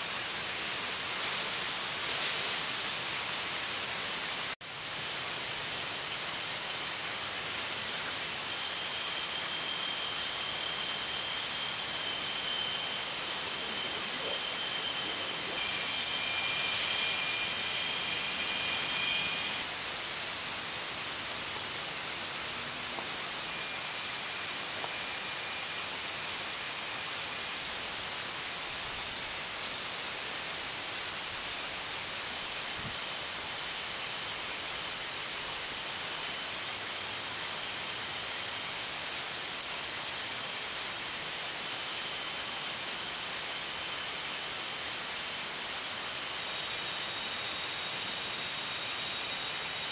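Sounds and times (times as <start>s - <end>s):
insect chorus hiss: 0.0s - 49.9s.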